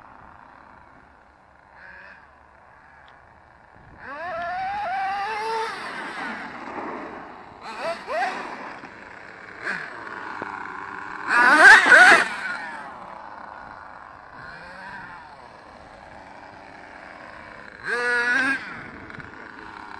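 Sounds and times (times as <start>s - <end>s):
model truck nitro engines revving: 0.0s - 19.9s.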